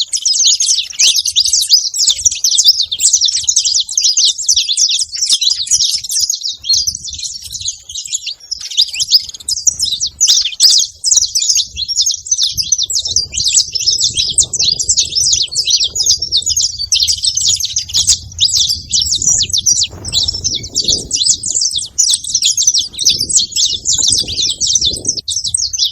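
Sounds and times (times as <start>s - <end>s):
finch singing high chirps and trills: 0.0s - 25.9s.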